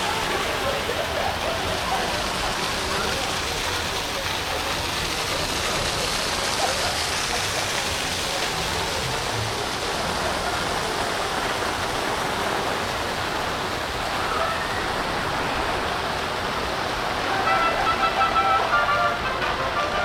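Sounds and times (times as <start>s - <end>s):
heavy rain: 0.0s - 20.0s
running water: 0.0s - 20.0s.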